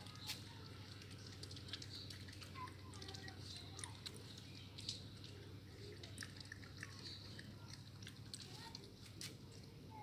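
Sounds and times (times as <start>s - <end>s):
puppy lapping water: 0.0s - 9.0s.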